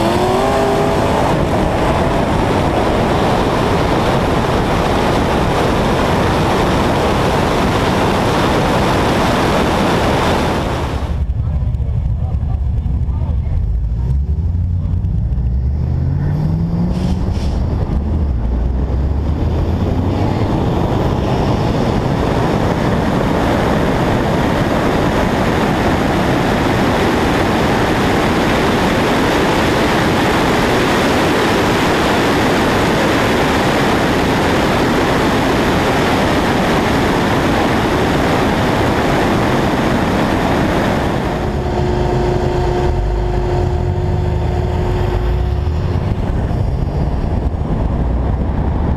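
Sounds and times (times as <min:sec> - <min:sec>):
car engine accelerating hard: 0:00.0 - 0:48.9
wind rushing over microphone: 0:00.0 - 0:48.9.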